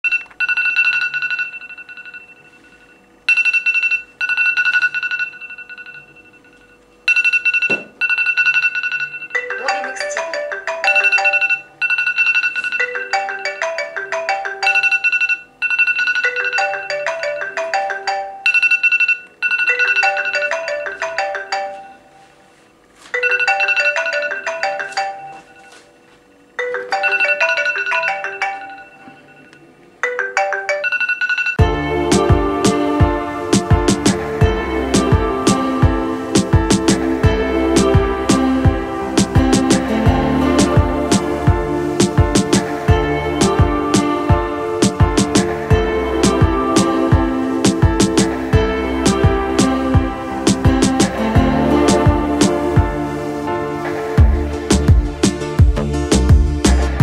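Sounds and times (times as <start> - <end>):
marimba-like phone ringtone: 0.0 - 52.5
alarm tones ringing: 0.0 - 53.1.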